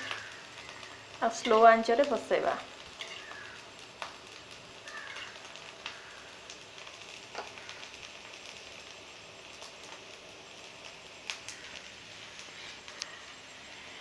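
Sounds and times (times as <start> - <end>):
fritters sizzling in oil: 0.0 - 14.0
oil crackling and popping: 0.0 - 14.0.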